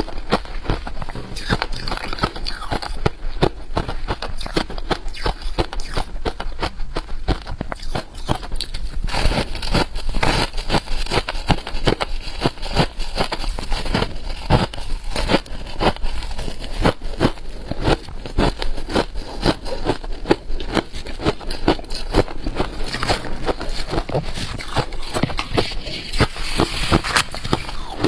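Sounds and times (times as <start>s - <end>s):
frost being chewed: 0.0s - 28.0s.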